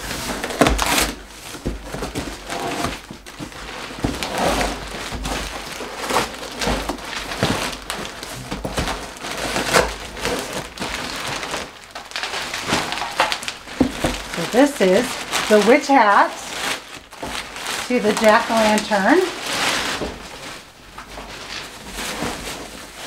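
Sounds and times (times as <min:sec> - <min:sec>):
cardboard and tape ripping: 0:00.0 - 0:23.0
plastic wrapping crinkling: 0:00.0 - 0:23.0.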